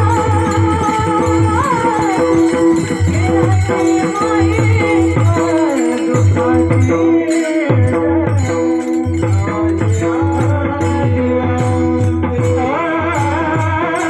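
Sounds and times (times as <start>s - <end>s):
hand drum beating: 0.0s - 14.0s
person singing: 0.0s - 14.0s
small cymbals jingling: 0.0s - 14.0s.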